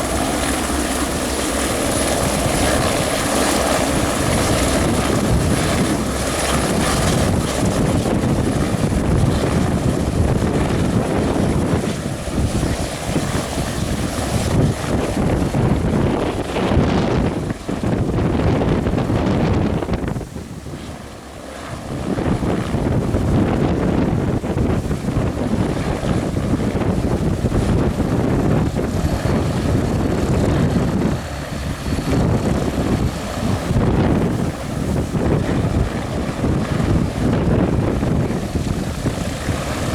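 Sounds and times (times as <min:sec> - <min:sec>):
helicopter running: 0:00.0 - 0:39.9
wind buffeting microphone: 0:00.0 - 0:39.9.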